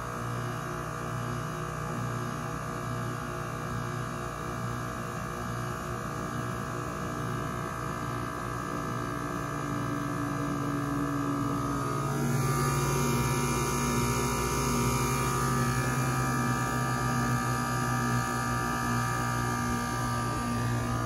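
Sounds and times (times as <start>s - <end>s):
heat pump compressor hum: 0.0s - 21.0s.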